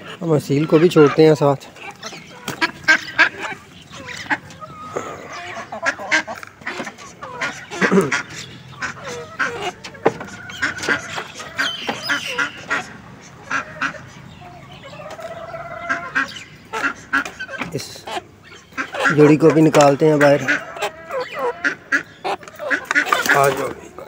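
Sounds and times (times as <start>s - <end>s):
guineafowl and chickens calling: 0.0s - 24.0s.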